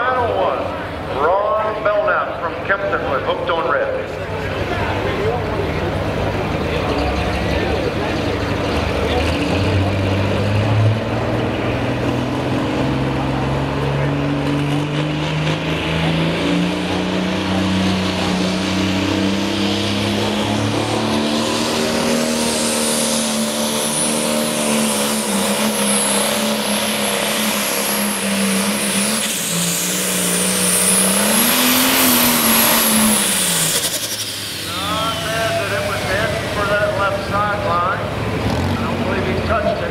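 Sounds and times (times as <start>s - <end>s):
tractor engine droning under load: 0.0s - 39.9s.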